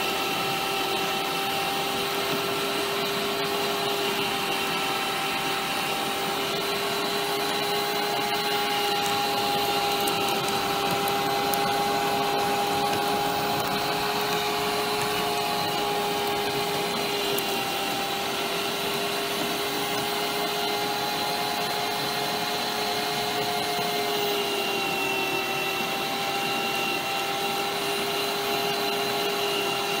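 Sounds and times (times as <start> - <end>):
meat grinder motor whining: 0.0 - 30.0.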